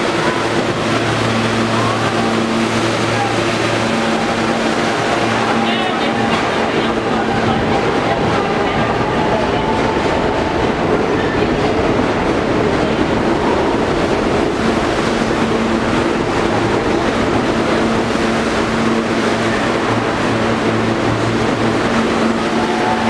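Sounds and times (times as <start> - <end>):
subway train rumbling on track: 0.0 - 23.0.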